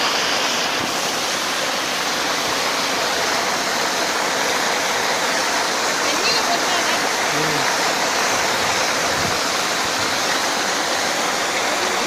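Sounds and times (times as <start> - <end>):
stream water pouring over rocks: 0.0 - 12.0.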